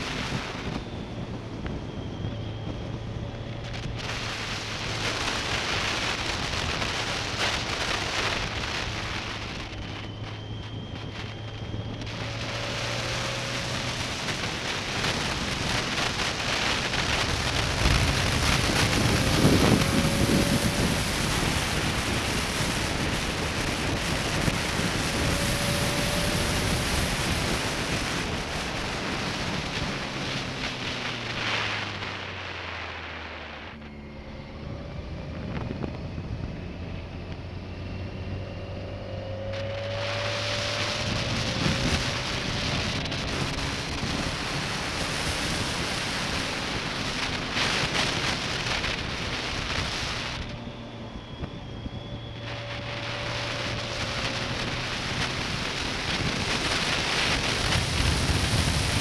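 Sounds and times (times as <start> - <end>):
wind rushing over microphone: 0.0 - 59.0
motorcycle engine running: 2.6 - 51.3, 51.9 - 59.0.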